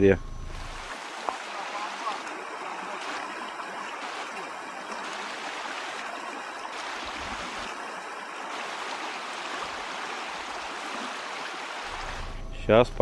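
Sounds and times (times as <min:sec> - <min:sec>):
river water rushing: 0:00.6 - 0:12.4.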